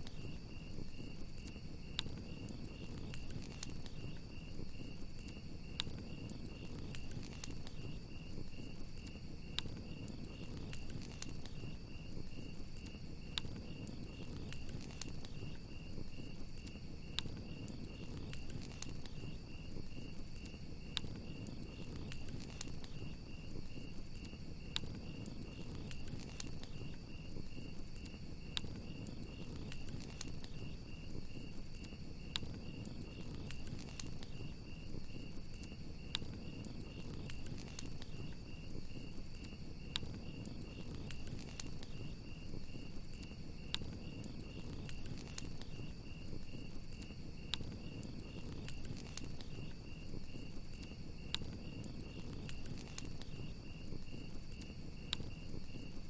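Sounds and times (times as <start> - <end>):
crickets chirping: 0.0 - 56.0
low fire rumble: 0.0 - 56.0
wood fire crackling: 0.0 - 56.0.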